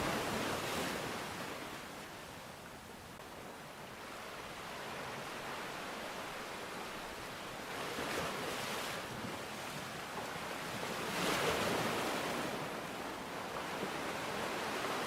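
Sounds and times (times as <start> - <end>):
rushing water: 0.0 - 10.7, 11.3 - 15.0.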